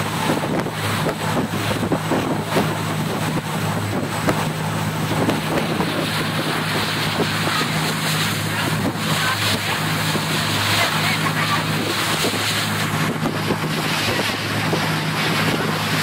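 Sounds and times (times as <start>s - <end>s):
ferry engine drone: 0.0s - 16.0s
wind buffeting microphone: 0.0s - 16.0s.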